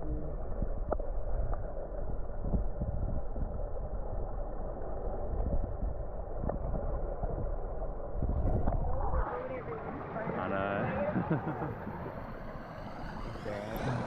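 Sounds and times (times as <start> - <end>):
muffled underwater water rush: 0.0 - 14.0.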